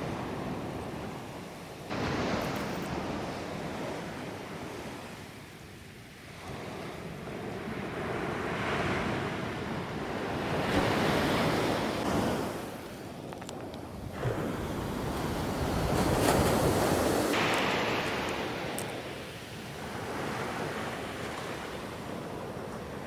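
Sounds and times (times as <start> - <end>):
ocean surf breaking: 0.0 - 5.5, 6.3 - 23.0.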